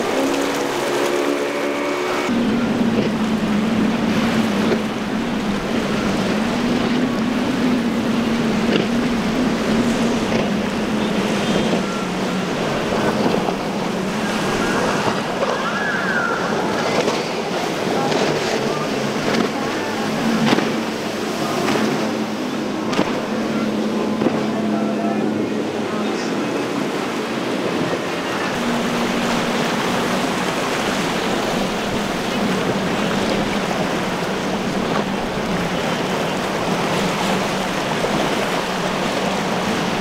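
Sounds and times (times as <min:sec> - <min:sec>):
boat engine drone: 0:00.0 - 0:40.0
breaking waves and spray: 0:00.0 - 0:40.0.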